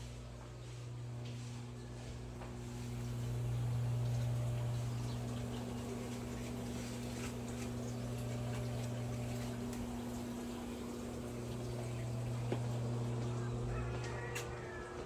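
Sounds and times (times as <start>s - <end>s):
hot tub pump humming: 0.0s - 15.0s.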